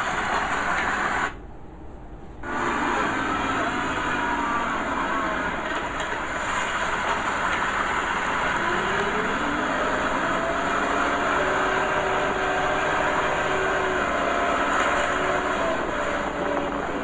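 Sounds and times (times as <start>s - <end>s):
heavy machinery diesel engines: 0.0s - 1.4s, 2.0s - 17.0s.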